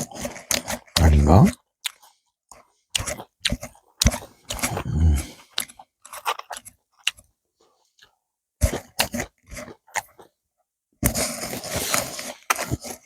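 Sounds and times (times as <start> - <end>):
chewing and crunching food: 0.0 - 10.4, 11.0 - 13.0.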